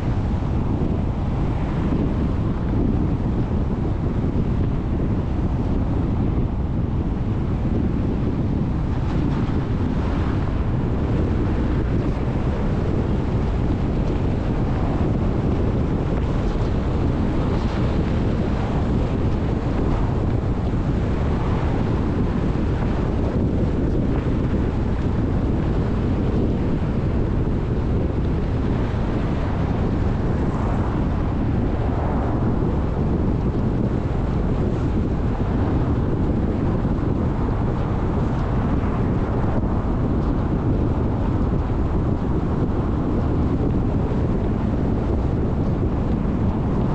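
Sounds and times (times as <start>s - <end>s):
wind rush on microphone: 0.0s - 46.9s.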